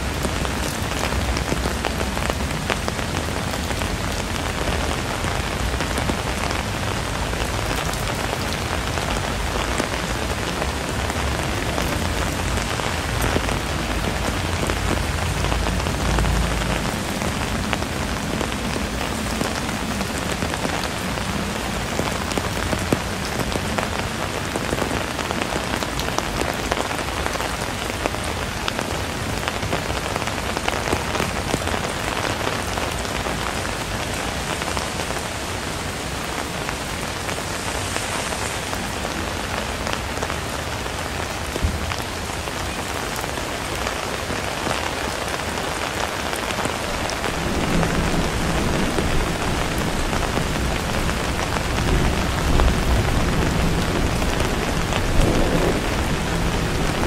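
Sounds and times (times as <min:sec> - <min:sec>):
raindrops ticking close by: 0:00.0 - 0:57.0
steady rain falling: 0:00.0 - 0:57.0.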